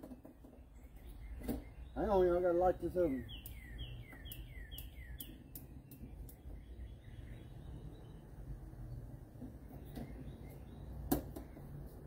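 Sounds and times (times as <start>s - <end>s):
bird singing falling notes: 0.0s - 12.0s.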